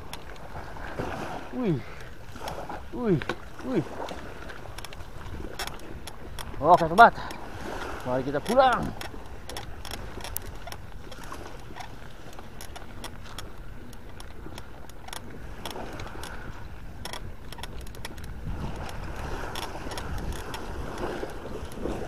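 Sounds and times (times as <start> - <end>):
bike clicks and rattles: 4.1 - 22.0.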